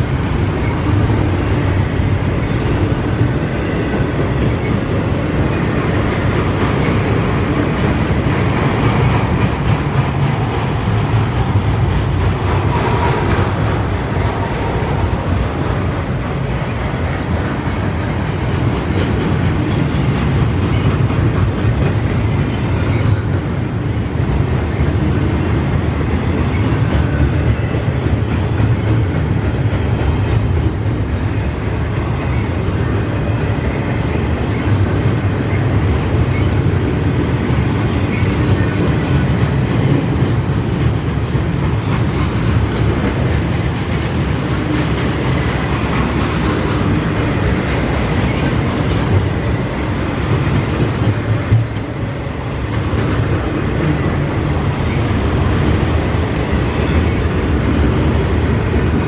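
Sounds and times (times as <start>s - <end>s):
freight train cars rolling on rails: 0.0s - 59.0s.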